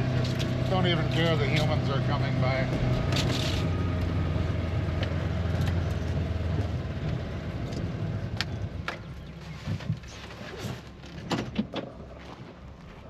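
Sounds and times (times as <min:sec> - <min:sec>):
utility vehicle engine humming: 0:00.0 - 0:11.3.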